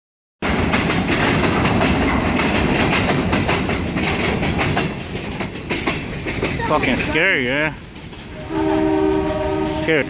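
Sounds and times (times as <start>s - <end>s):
wheels clattering over rails: 0.4s - 9.8s
train rumbling past: 0.4s - 10.0s.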